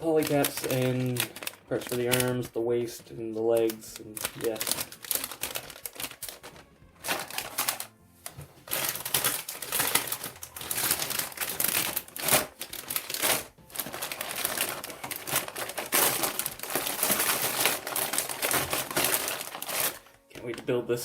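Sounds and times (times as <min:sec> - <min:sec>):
plastic parts crinkling and clattering: 0:00.0 - 0:21.0
plastic sheet rustling: 0:00.0 - 0:21.0.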